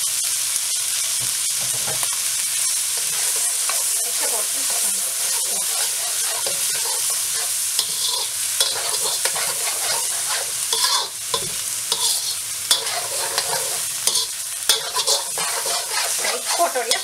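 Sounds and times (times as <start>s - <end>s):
food sizzling in a wok: 0.0s - 17.0s
metal spatula scraping a pan: 2.9s - 17.0s.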